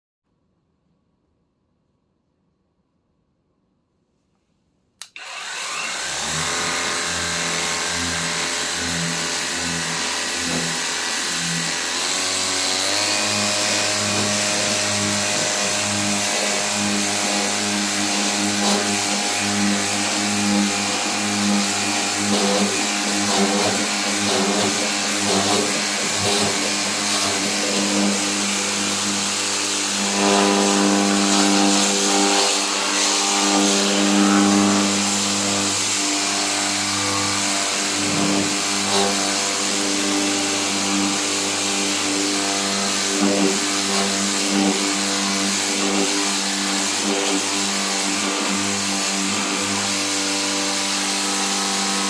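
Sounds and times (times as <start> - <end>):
pressure washer motor running: 5.2 - 52.0.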